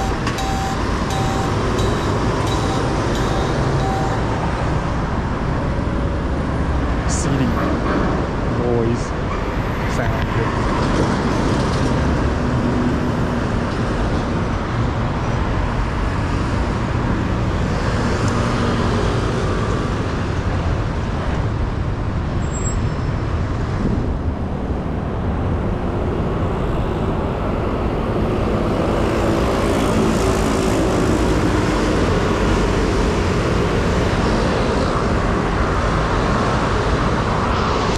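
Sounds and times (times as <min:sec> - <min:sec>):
road traffic passing and idling: 0:00.0 - 0:37.9.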